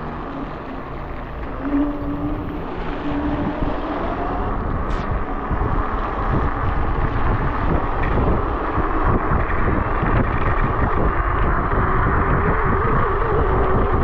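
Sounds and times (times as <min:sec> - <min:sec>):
tyre noise on wet road: 0:00.0 - 0:14.0
wind buffeting microphone: 0:00.0 - 0:14.0.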